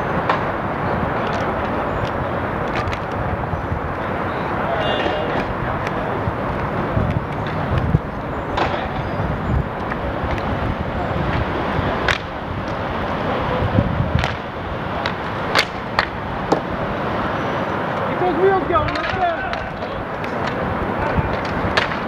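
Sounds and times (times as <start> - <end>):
background noise: 0.0 - 22.0
inline skate wheels rolling: 0.1 - 22.0
hockey sticks clacking: 0.2 - 3.2, 4.8 - 9.1, 9.8 - 13.3, 14.1 - 16.8, 17.9 - 22.0.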